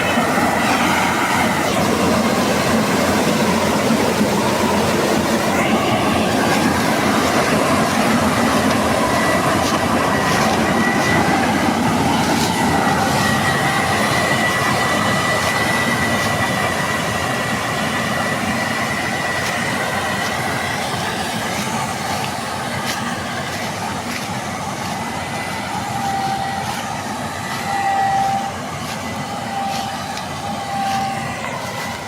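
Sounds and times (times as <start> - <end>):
combine harvester running: 0.0 - 32.0
high mechanical whine: 0.0 - 32.0.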